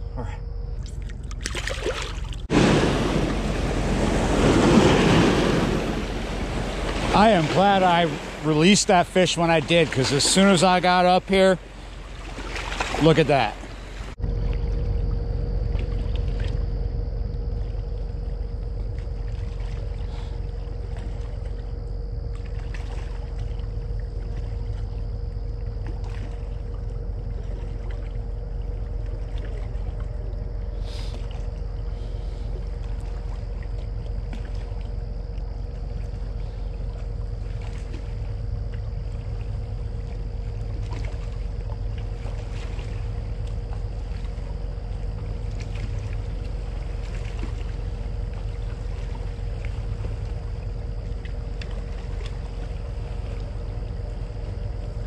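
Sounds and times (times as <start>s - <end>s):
constant hum: 0.0s - 55.0s
distant ship machinery rumble: 0.0s - 55.0s.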